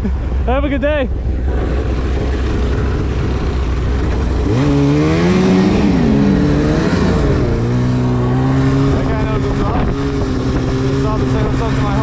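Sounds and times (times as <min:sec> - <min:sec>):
snowmobile engine revving: 0:00.5 - 0:12.0.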